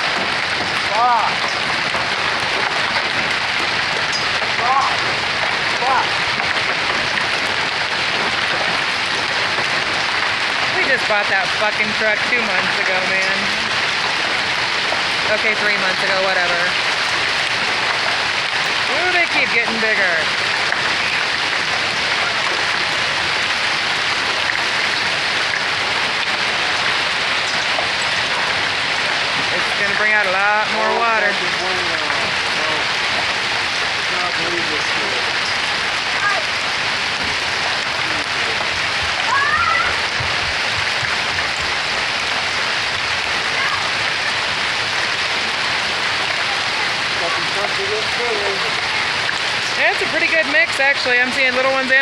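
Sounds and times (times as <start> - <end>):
heavy hail clattering: 0.0 - 52.0.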